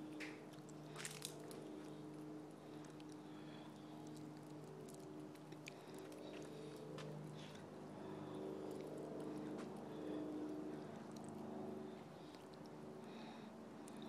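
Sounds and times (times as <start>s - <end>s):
low machine hum: 0.0s - 14.0s
squirrel gnawing nut: 0.0s - 14.0s.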